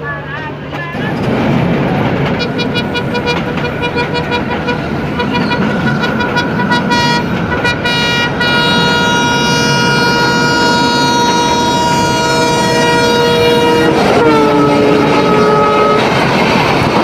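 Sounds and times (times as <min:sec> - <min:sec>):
train rumbling on track: 0:00.0 - 0:17.0
train horn: 0:02.4 - 0:16.2.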